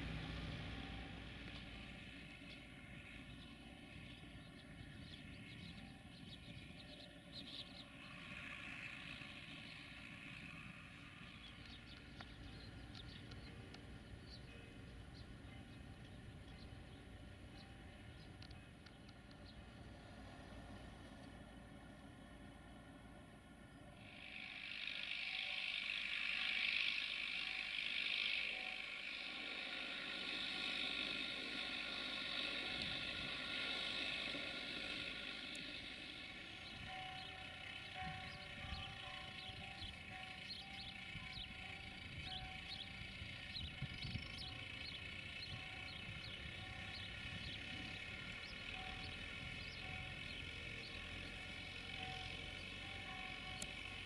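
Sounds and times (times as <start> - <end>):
diesel locomotive rumble and whine: 0.0 - 54.0
distant vehicle whirring: 0.0 - 54.0
small birds chirping: 1.5 - 20.1, 26.0 - 54.0.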